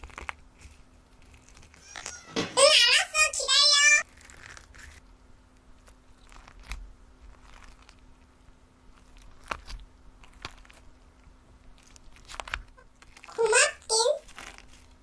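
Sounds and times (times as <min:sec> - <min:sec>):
slime crackling: 0:00.0 - 0:02.1, 0:04.0 - 0:05.0, 0:05.7 - 0:15.0.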